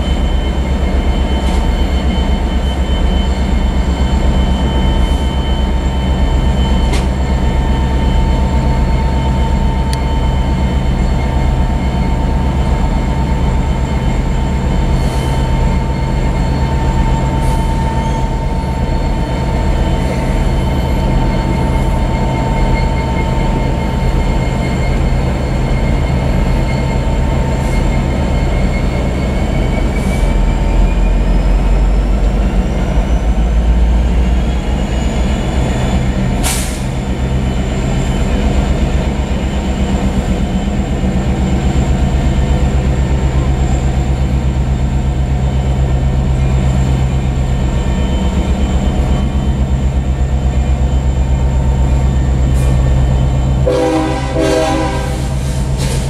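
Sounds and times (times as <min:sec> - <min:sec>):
diesel locomotives droning: 0:00.0 - 0:56.0.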